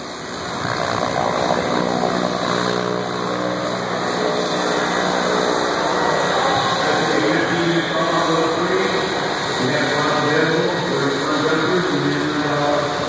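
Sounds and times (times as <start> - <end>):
turboprop plane taxiing: 0.0 - 13.0.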